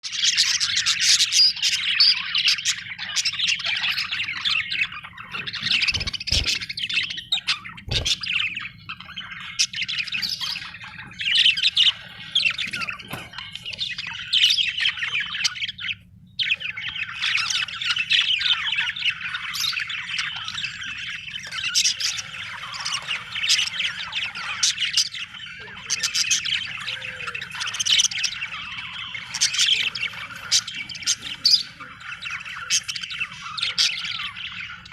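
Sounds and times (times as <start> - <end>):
budgerigars chirping and squawking: 0.0 - 34.9.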